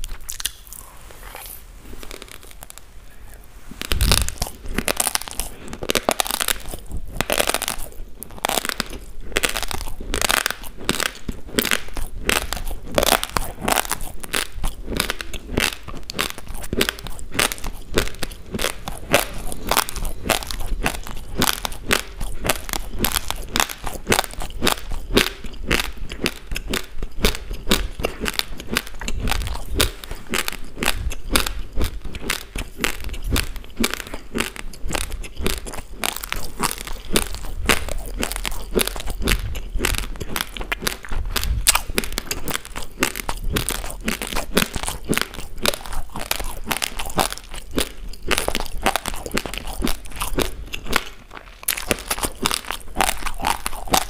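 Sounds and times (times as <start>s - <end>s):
rice grains crunched by teeth: 0.0s - 2.9s, 3.7s - 54.0s.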